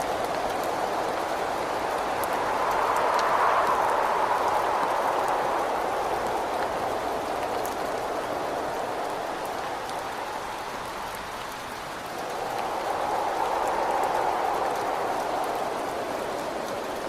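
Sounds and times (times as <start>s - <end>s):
rushing wind: 0.0s - 17.0s
steady rain: 0.0s - 17.0s.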